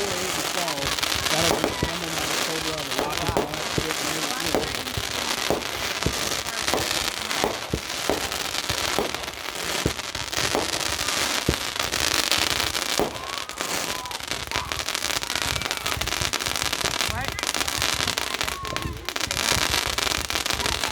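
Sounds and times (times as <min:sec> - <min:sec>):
fireworks bangs: 0:00.0 - 0:20.9
fireworks crackling: 0:00.0 - 0:20.9.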